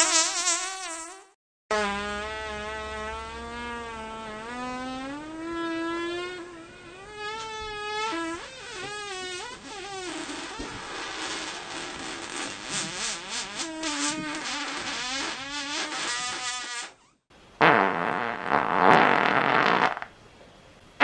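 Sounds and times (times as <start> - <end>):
long buzzing fart: 0.0 - 20.1.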